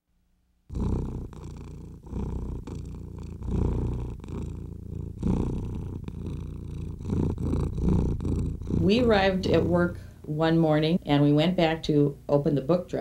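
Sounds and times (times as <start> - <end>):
cat purring: 0.7 - 13.0.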